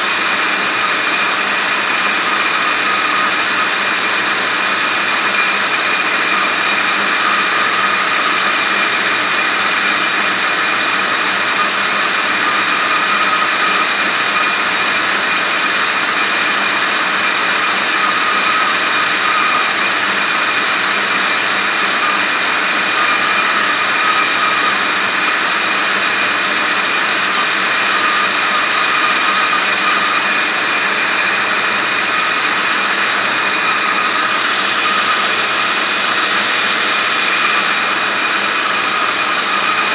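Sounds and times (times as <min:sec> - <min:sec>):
engine running: 0:00.0 - 0:39.9
high-pitched belt whine: 0:00.0 - 0:39.9.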